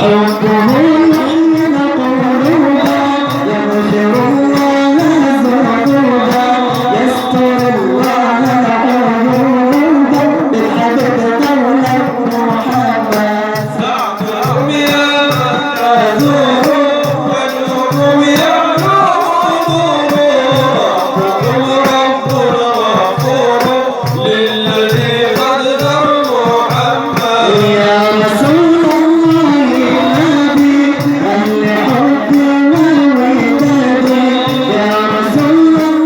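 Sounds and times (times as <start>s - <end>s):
man singing religious song: 0.0s - 36.0s.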